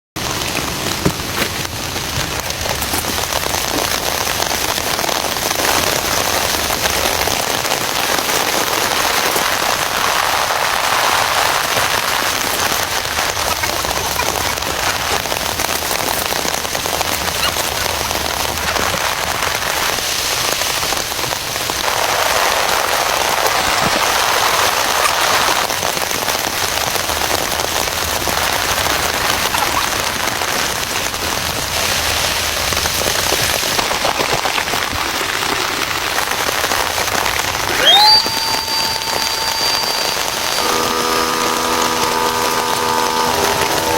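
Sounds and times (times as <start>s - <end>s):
heavy rain falling: 0.2s - 43.9s.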